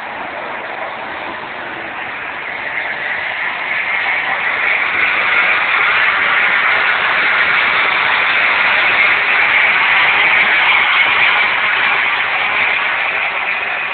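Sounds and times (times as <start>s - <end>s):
motorcycles racing at full throttle: 0.0s - 13.9s.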